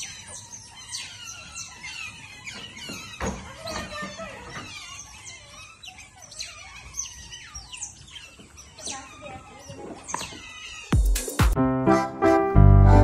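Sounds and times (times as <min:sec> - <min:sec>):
otters squeaking and chirping: 0:00.0 - 0:11.6.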